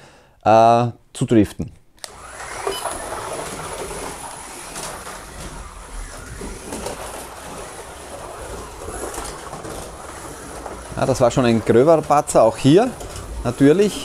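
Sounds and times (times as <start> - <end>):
slot car electric motor whirring: 2.0 - 14.0
slot car rattling on plastic track: 2.1 - 14.0.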